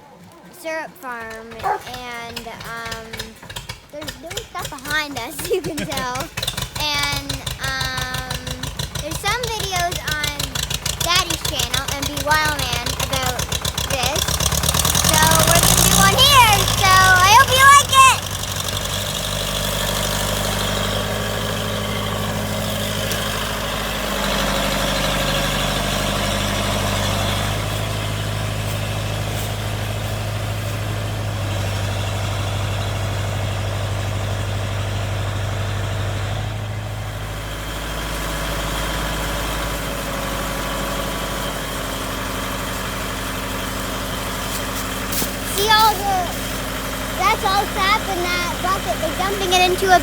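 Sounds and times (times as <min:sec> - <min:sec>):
vehicle engine idling: 0:00.0 - 0:50.0.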